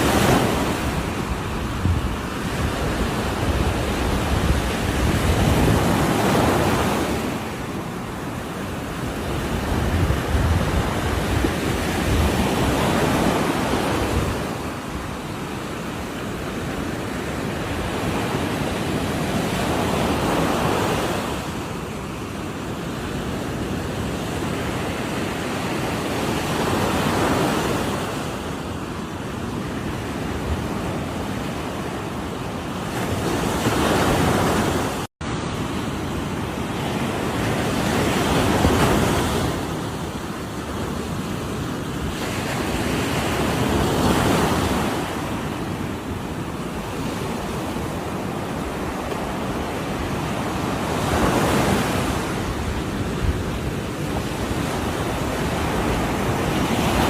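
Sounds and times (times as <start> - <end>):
ocean surf breaking on shore: 0.0 - 57.0.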